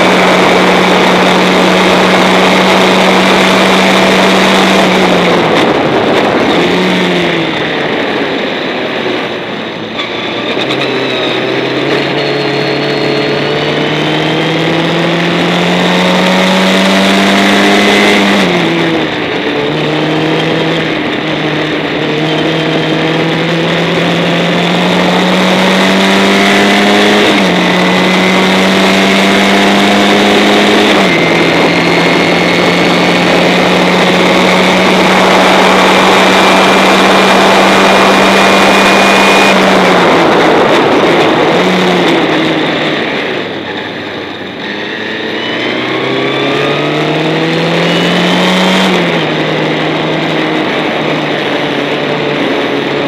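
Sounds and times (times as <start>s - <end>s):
racing car engine accelerating: 0.0s - 53.0s.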